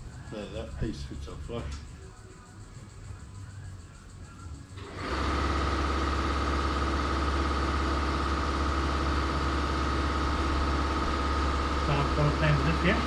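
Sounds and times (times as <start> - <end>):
motor humming and whining: 1.6 - 13.0.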